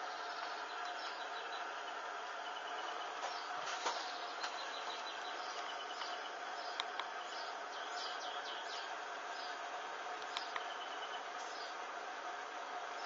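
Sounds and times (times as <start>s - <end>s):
faint high chirps: 0.0s - 9.6s, 10.2s - 11.8s.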